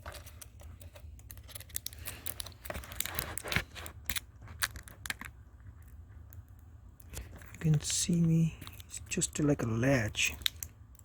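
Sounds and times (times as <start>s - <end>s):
light clicks taps and scrapes: 0.0s - 9.4s.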